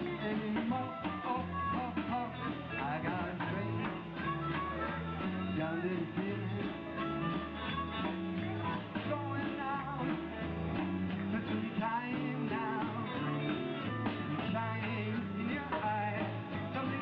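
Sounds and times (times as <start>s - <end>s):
rock and roll band playing: 0.0s - 17.0s.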